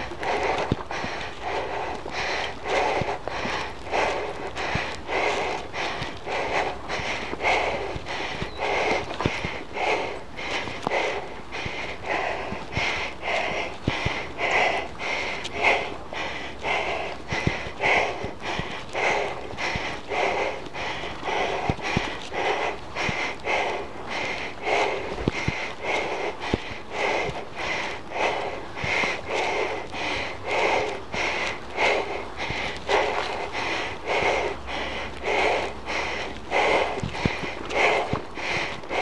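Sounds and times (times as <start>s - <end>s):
person panting hard: 0.0s - 39.0s.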